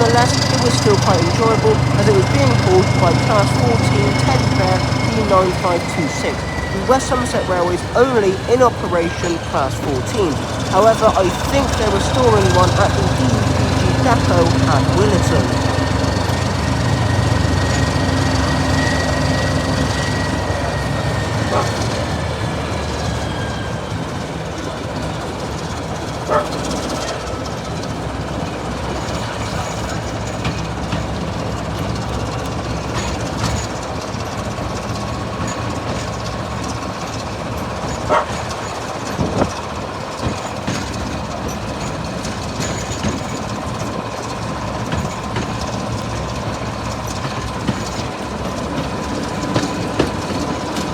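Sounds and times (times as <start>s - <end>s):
diesel engine: 0.0s - 50.9s
train wheels rumbling on rails: 0.0s - 50.9s.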